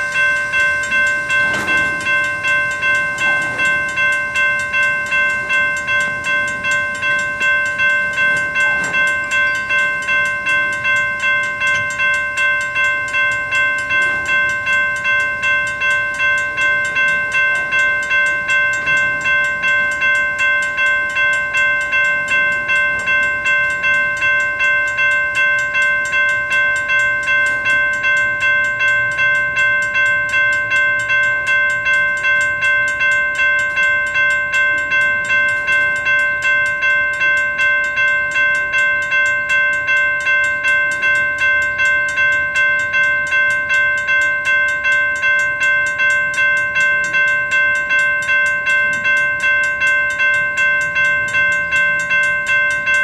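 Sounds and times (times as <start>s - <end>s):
crossing warning bell ringing: 0.0s - 53.0s.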